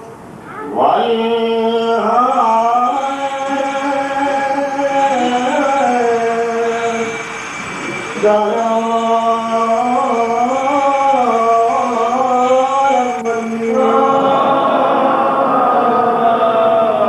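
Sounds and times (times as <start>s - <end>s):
sung liturgical chant: 0.0s - 17.0s.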